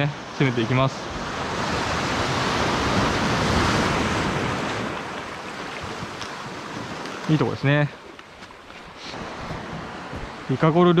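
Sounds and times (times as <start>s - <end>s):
wave washing on rocks: 0.0s - 11.0s.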